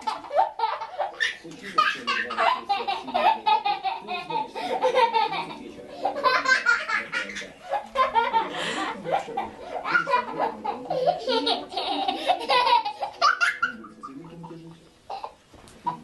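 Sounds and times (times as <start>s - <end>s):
baby laughing: 0.0s - 16.0s.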